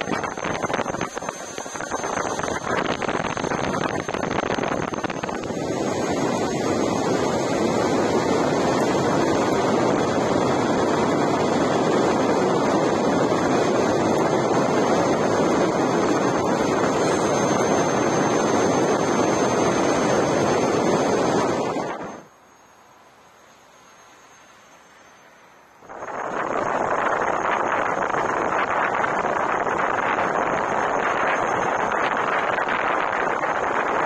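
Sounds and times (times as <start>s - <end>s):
wind rush on microphone: 0.0s - 22.3s, 25.8s - 34.0s
road noise on asphalt: 0.0s - 33.9s
faint high whine: 0.0s - 34.0s.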